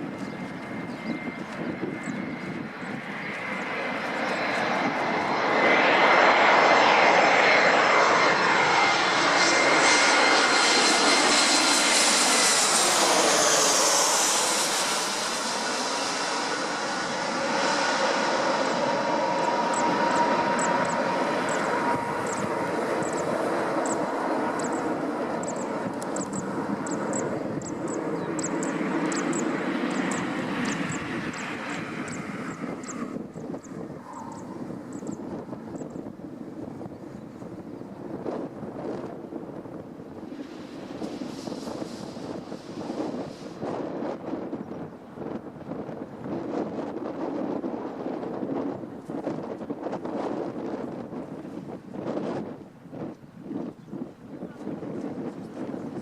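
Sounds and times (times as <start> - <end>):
jet engines passing overhead: 0.0 - 56.0.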